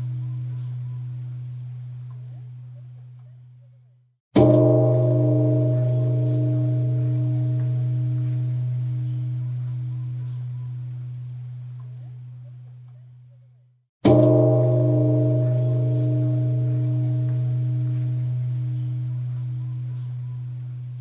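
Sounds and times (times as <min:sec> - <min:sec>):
large temple bell ringing: 0:00.0 - 0:02.6, 0:04.4 - 0:12.4, 0:14.0 - 0:21.0.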